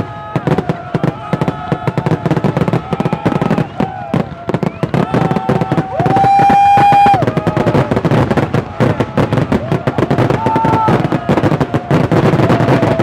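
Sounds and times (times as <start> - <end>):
firework whistles: 0.0 - 13.0
fireworks crackling and popping: 0.0 - 13.0.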